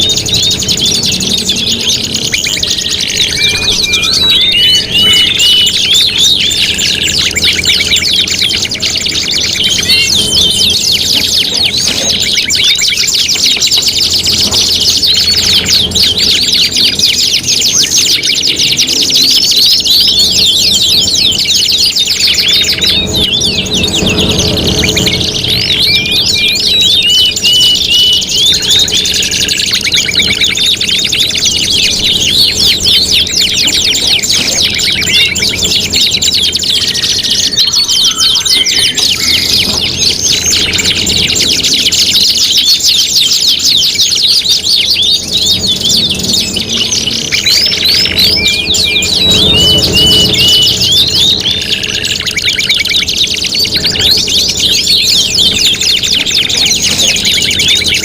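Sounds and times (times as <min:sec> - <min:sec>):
canaries singing trills: 0:00.0 - 0:58.0.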